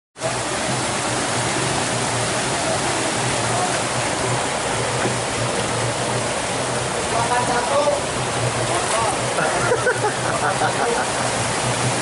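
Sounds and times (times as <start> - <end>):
flowing water rushing: 0.2 - 12.0.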